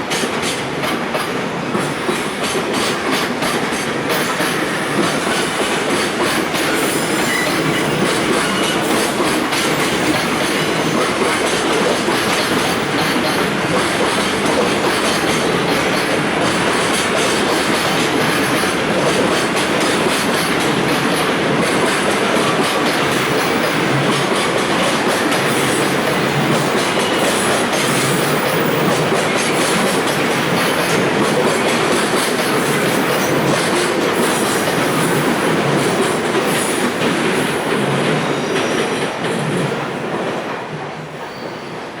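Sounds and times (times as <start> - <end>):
train wheels rolling on rails: 0.0 - 42.0.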